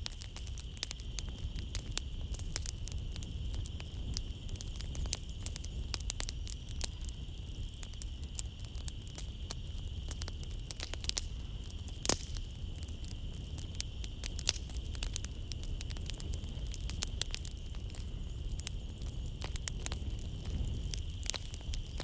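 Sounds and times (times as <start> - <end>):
night insects chirring: 0.0 - 22.0
wood fire crackling: 0.0 - 22.0.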